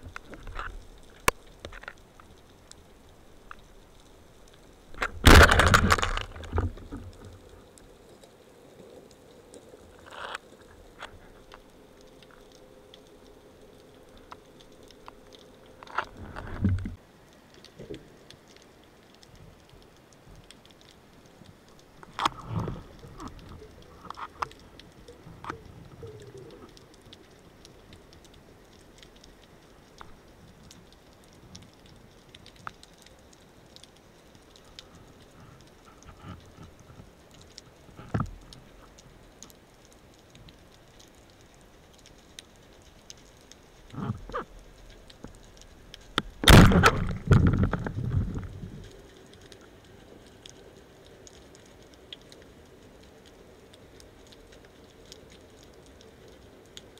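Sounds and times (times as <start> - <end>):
faint underwater crackling and ticking: 0.0 - 56.9.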